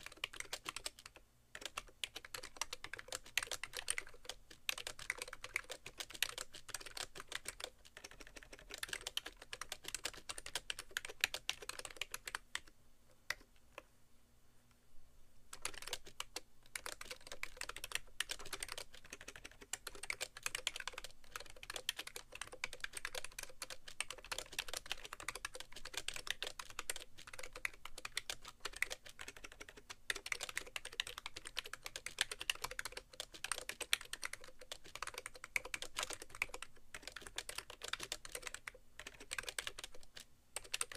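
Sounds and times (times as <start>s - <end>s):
rapid typing on keyboard: 0.0s - 12.7s, 15.5s - 40.9s.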